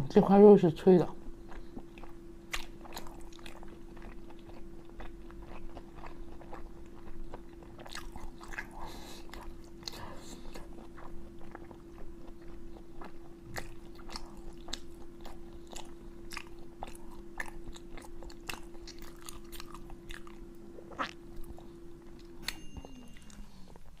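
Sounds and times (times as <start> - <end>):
steady hum: 0.0 - 24.0
crunchy chewing: 1.2 - 22.6.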